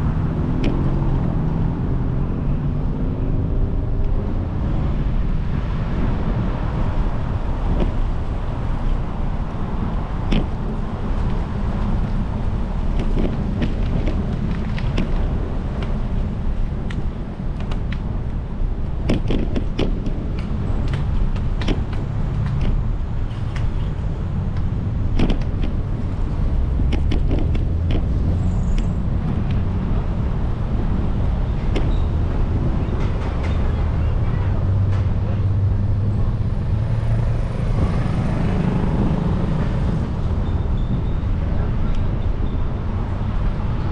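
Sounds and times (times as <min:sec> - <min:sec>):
road and tyre noise: 0:00.0 - 0:43.9
wind rumbling on microphone: 0:00.0 - 0:43.9.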